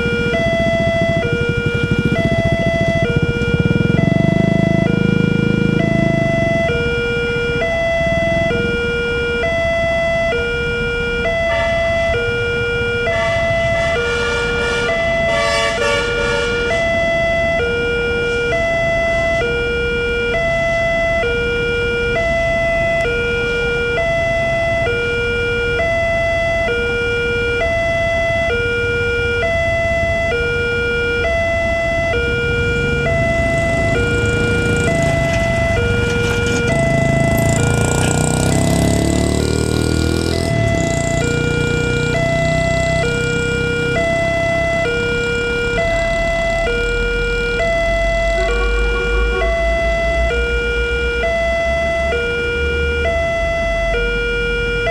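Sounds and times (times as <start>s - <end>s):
motorcycle engine: 0.0s - 18.0s, 18.8s - 50.6s
two-tone level crossing alarm: 0.0s - 54.9s.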